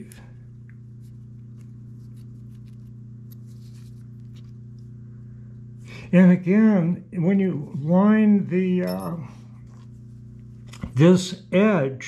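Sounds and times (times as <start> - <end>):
low electric motor hum: 0.0 - 12.0.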